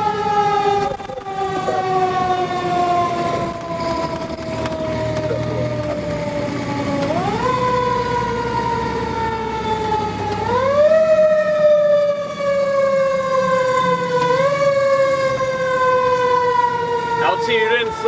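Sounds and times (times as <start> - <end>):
mechanical siren wailing: 0.0 - 18.0
truck engine and road rumble: 0.0 - 18.0.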